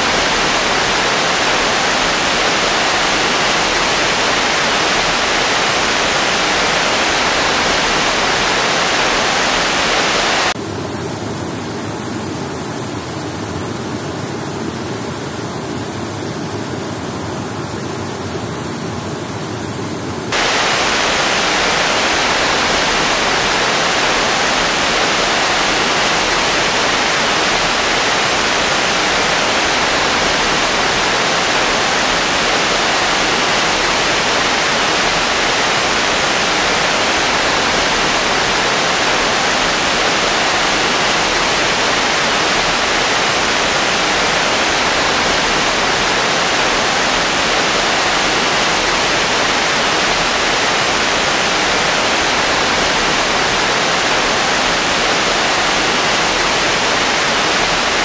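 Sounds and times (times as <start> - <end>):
waterfall rushing: 0.0 - 10.6, 20.3 - 58.0.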